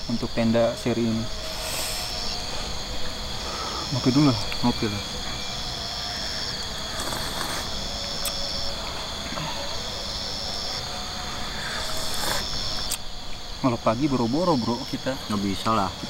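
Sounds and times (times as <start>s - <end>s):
higher insect trill: 0.0s - 16.0s
insects trilling: 0.0s - 16.0s.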